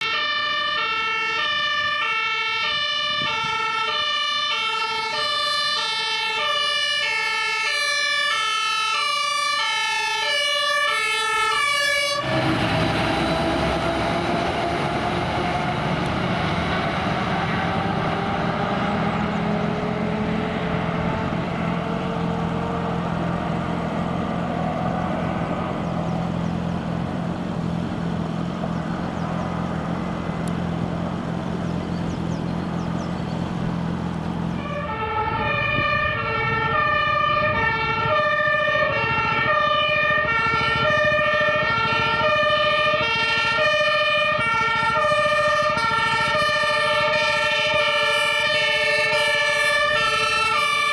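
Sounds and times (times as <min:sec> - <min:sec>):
fire truck engine and road noise: 0:00.0 - 0:50.9
two-tone fire engine siren: 0:00.0 - 0:50.9.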